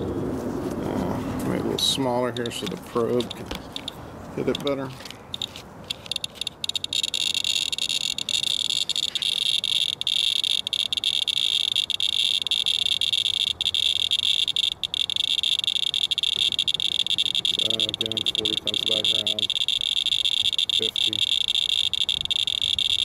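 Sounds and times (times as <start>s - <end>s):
geiger counter clicking rapidly: 2.4s - 4.0s, 5.3s - 23.0s.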